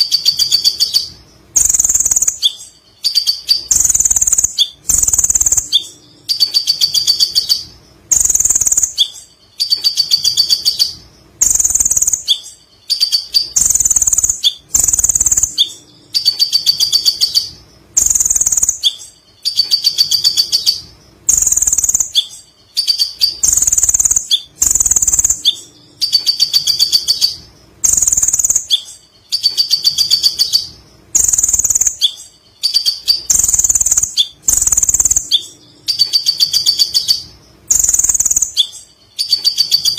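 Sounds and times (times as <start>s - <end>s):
sunbird chattering trills: 0.0s - 39.9s.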